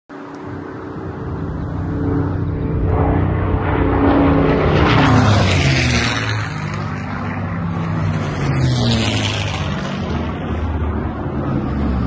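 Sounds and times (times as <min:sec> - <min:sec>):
propeller airplane engine droning: 0:00.1 - 0:12.0.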